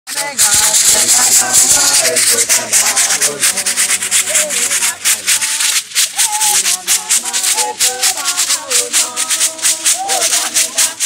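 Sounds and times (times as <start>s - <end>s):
choir singing: 0.1s - 11.0s
hand shakers rattling: 0.1s - 11.0s.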